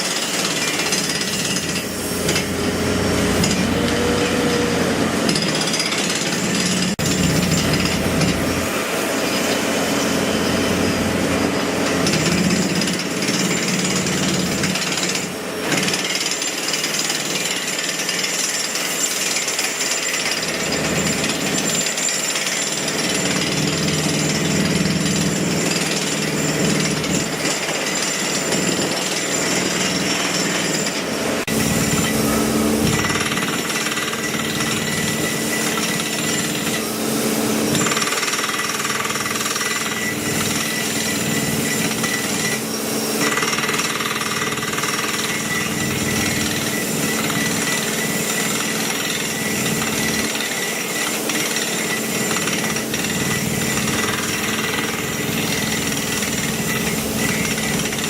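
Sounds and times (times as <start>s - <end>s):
jackhammer hammering: 0.0s - 58.0s.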